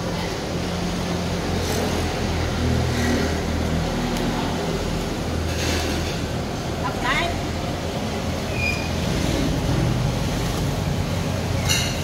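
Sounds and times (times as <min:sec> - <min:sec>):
low rumble of street traffic: 0:00.0 - 0:12.0.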